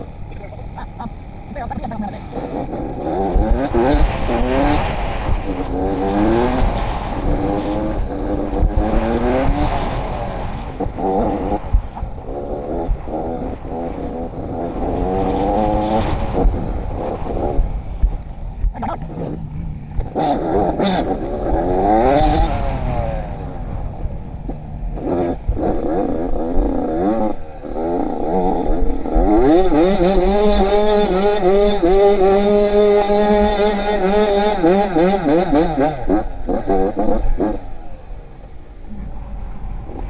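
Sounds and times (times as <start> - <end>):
quad bike engine revving: 0.0 - 38.3
low rumble of wind and ground: 0.0 - 40.0.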